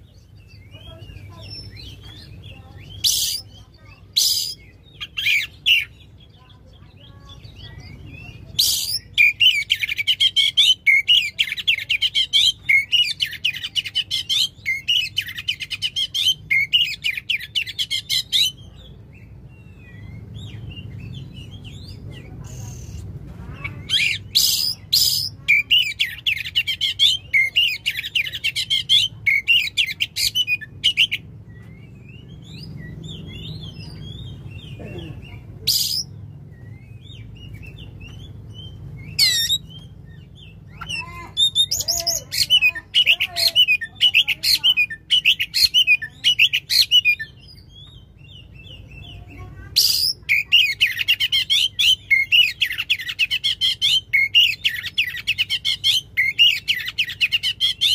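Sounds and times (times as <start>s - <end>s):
magpie-robin singing: 0.0s - 57.9s
soft bird calls: 0.0s - 57.9s.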